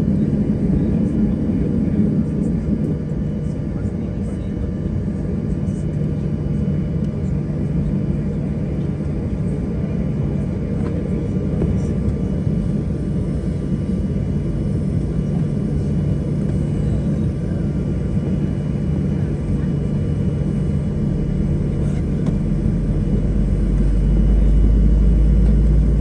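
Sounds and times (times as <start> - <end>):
airplane cabin rumble and hum: 0.0 - 26.0.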